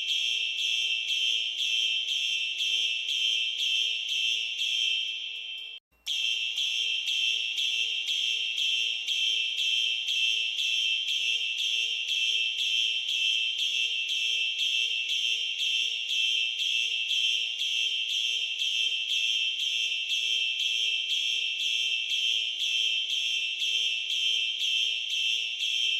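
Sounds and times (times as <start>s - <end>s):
fire alarm shrill pulses: 0.0s - 25.9s.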